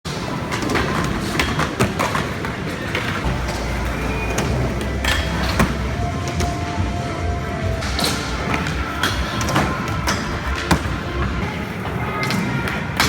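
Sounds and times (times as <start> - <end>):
skateboard clacking: 0.1 - 13.0
skateboard wheels rolling: 0.1 - 13.0.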